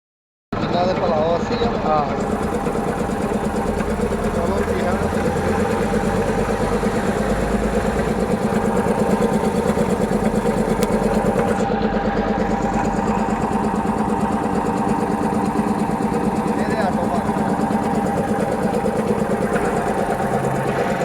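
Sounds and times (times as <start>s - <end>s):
air compressor running: 0.6s - 21.0s.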